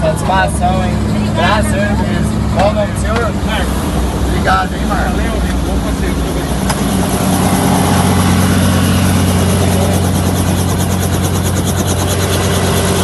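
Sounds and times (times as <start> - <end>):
helicopter rotor running: 0.0 - 13.0.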